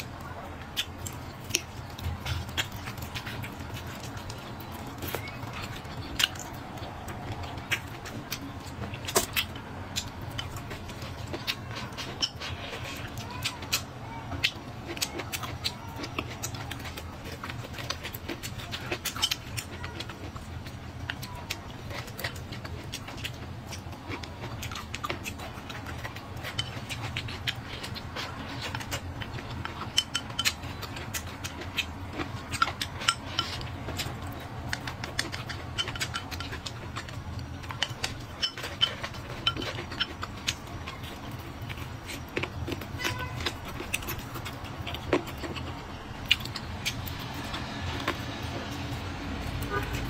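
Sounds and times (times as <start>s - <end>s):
person chewing: 0.0s - 50.0s
chopsticks in a ceramic bowl: 0.8s - 50.0s.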